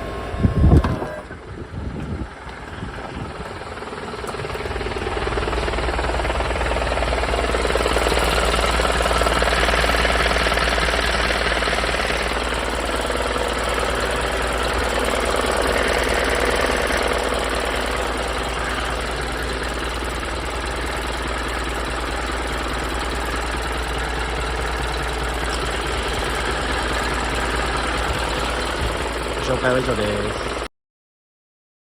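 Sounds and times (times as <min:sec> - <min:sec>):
diesel engine idling: 0:00.0 - 0:30.7.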